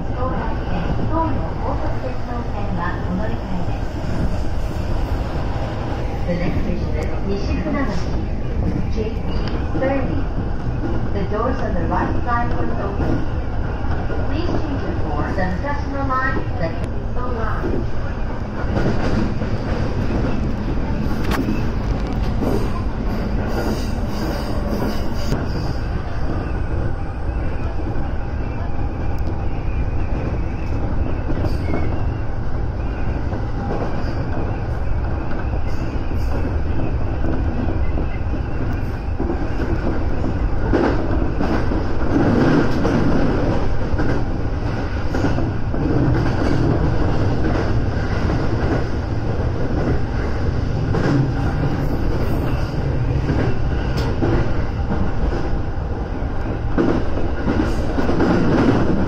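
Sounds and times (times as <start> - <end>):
train rumble inside car: 0.0 - 59.0.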